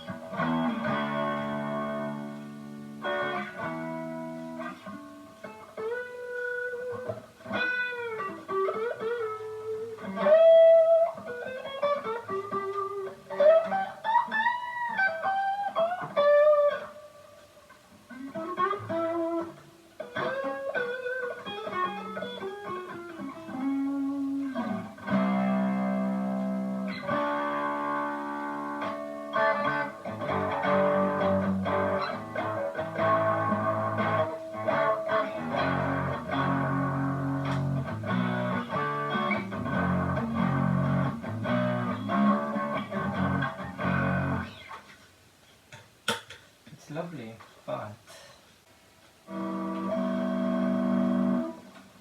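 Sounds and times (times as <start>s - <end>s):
distorted electric guitar: 0.0s - 45.0s, 49.2s - 52.0s.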